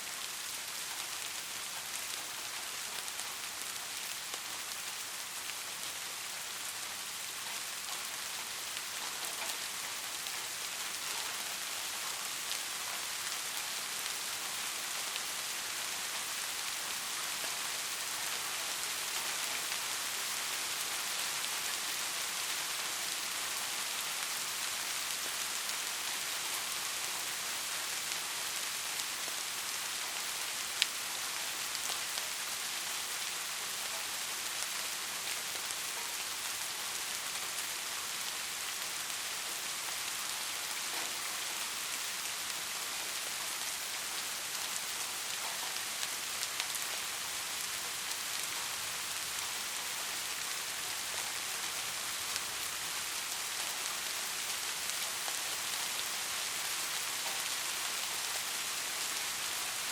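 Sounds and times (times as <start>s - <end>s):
soft rain hissing: 0.0s - 59.9s.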